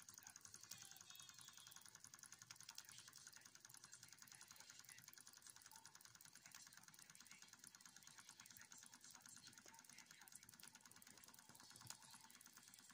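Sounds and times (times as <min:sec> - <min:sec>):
miniature steam engine ticking: 0:00.0 - 0:12.9.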